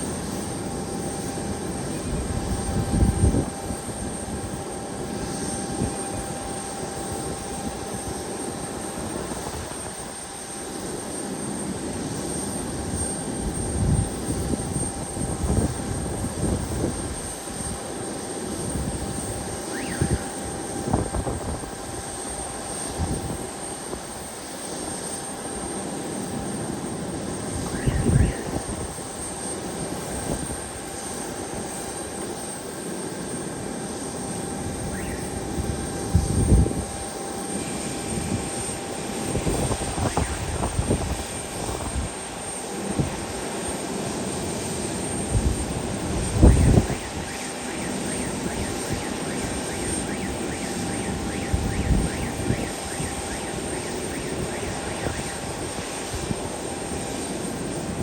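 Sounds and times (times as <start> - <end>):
airplane engines droning: 0.0 - 58.0.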